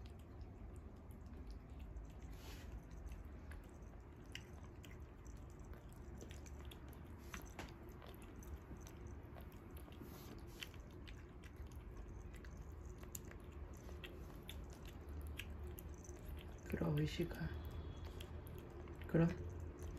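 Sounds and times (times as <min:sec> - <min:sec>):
cat chewing wet food: 0:00.0 - 0:19.9.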